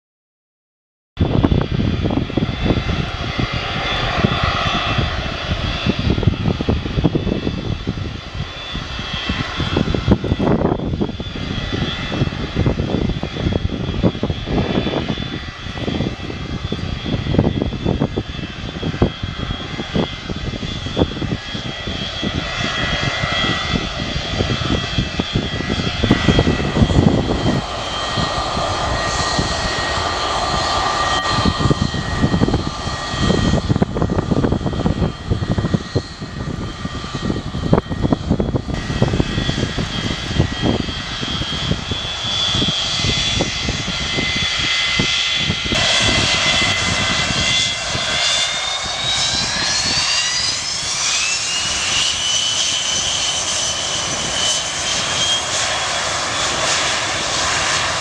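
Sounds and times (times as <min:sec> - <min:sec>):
jet engines whining: 0:01.2 - 0:58.0.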